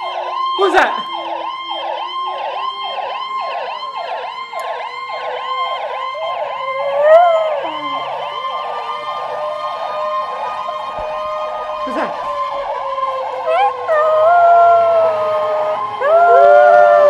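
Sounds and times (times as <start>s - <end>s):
ambulance siren yelping: 0.0s - 17.0s.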